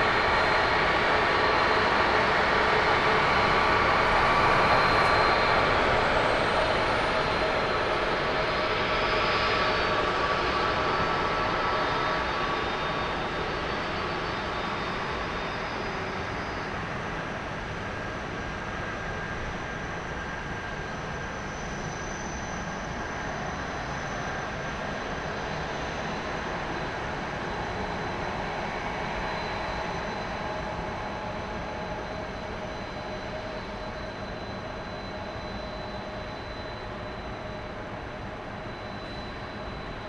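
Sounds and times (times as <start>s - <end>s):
jet engines running with whine: 0.0s - 40.0s.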